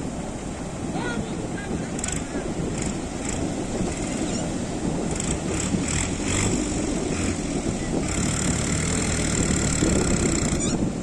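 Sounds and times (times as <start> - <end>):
low surf rumble: 0.0 - 11.0
surf washing up beach: 0.0 - 11.0.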